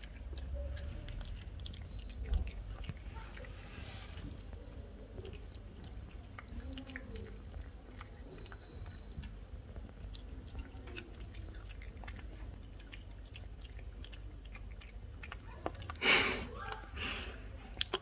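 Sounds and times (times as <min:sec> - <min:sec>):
cat licking and chewing: 0:00.0 - 0:18.0.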